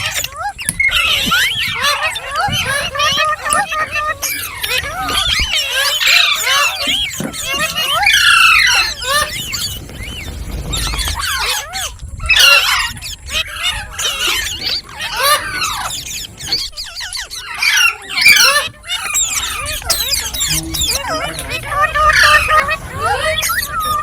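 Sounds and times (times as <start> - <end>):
parrot squawking: 0.0 - 9.8, 10.8 - 24.0.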